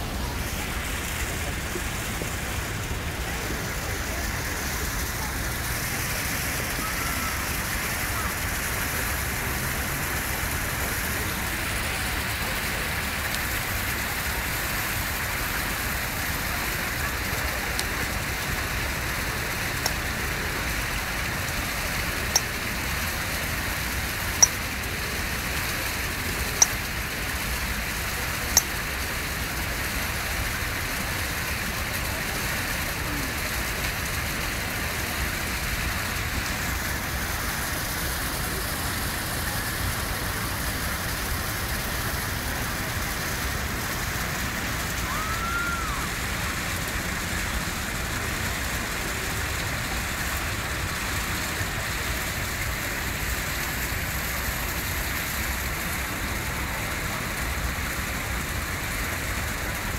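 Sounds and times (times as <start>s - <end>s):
hissing outdoor background noise: 0.0s - 59.9s.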